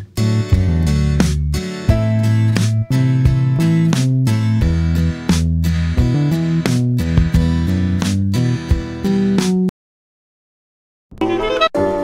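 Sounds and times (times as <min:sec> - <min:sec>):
strummed guitar chords: 0:00.0 - 0:09.7.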